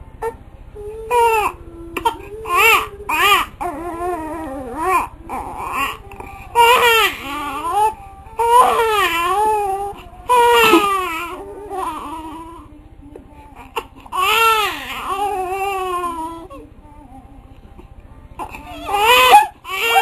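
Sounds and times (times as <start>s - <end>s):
infant crying: 1.1s - 12.6s, 13.7s - 16.6s, 18.4s - 20.0s.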